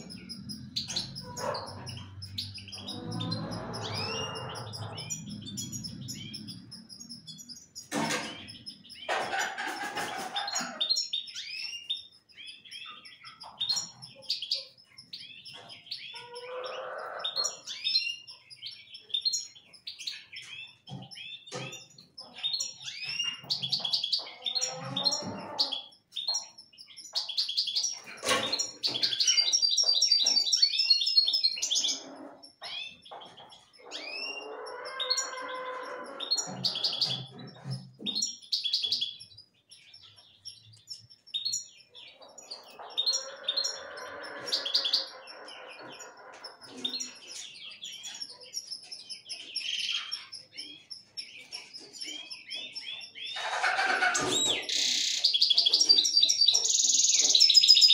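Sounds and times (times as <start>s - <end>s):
finches chirping and trilling: 0.0s - 57.9s.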